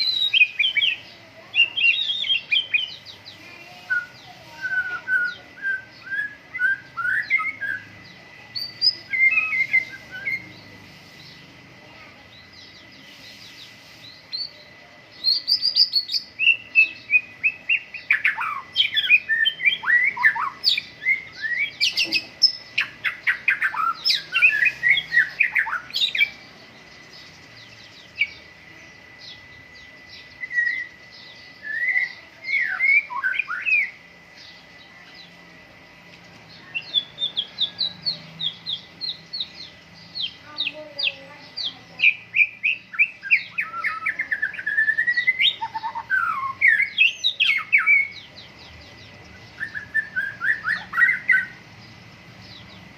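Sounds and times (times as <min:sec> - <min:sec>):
songbird whistling phrases: 0:00.0 - 0:11.4, 0:12.3 - 0:35.4, 0:36.5 - 0:51.6
faint steady high tone: 0:00.0 - 0:51.6.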